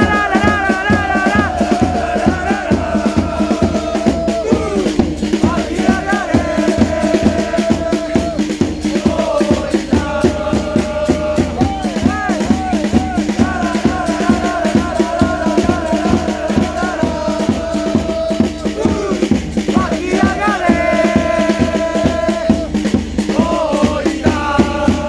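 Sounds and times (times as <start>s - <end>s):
fans chanting in unison: 0.0s - 25.0s
fast drum beat: 0.0s - 25.0s.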